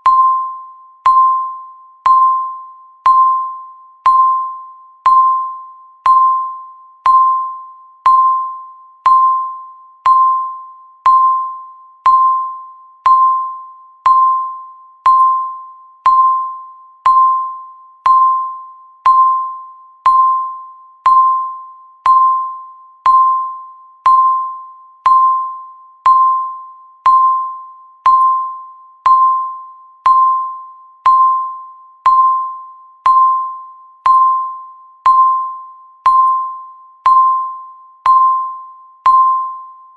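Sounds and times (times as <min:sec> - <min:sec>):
electronic timer ping: 0:00.0 - 0:39.9.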